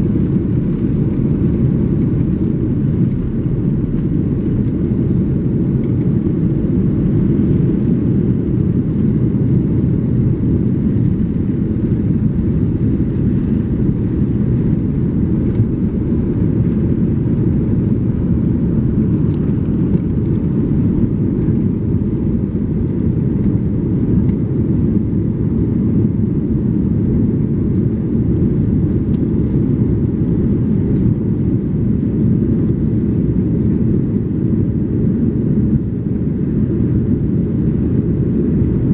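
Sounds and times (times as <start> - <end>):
jet engines during takeoff: 0.0 - 38.9.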